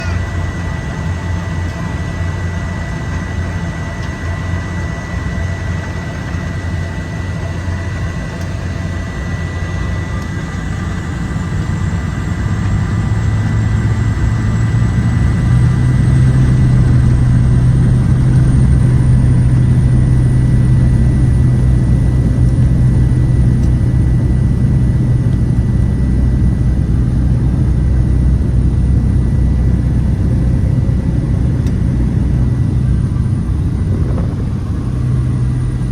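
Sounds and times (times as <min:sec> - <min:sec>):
turboprop engine whining: 0:00.0 - 0:35.9.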